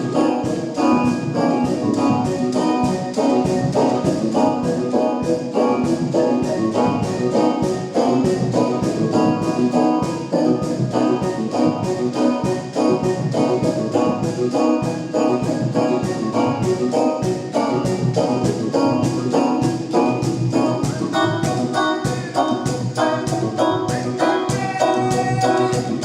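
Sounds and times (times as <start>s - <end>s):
music with steady beat: 0.0s - 26.0s
organ-like keyboard chords: 0.0s - 26.0s.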